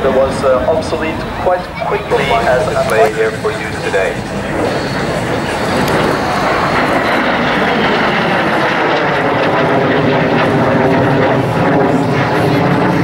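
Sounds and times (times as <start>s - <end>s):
jet engine passing with whine: 0.0s - 13.0s.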